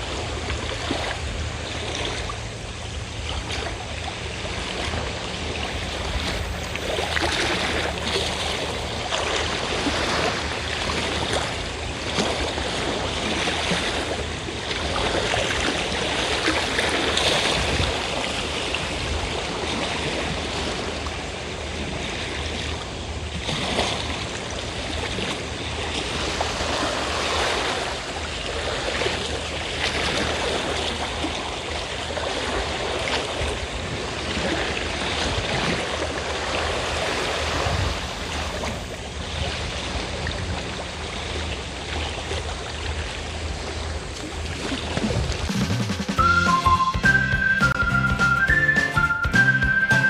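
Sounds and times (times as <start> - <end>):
sea waves washing on shore: 0.0 - 46.8
boat engine humming: 0.0 - 50.0.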